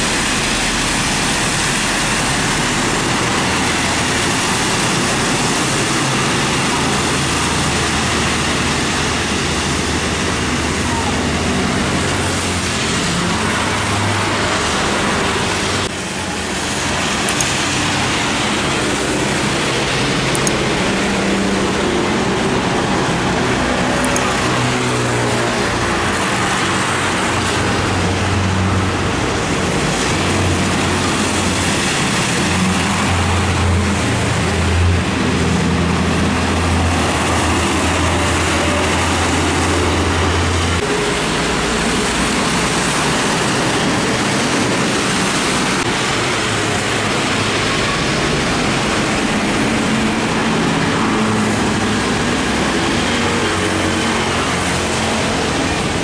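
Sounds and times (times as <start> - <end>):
truck engine drone: 0.0 - 56.0
tyres hissing through water: 0.0 - 56.0.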